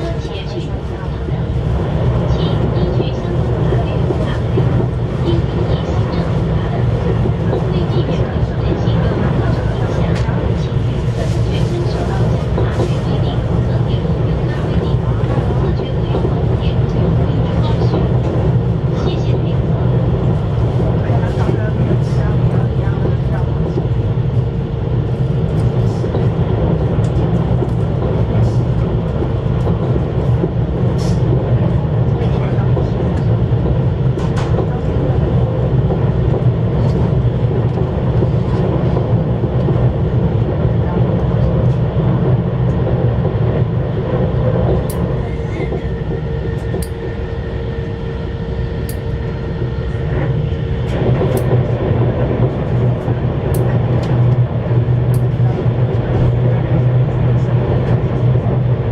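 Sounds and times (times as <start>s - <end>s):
train running low rumble: 0.0s - 58.9s.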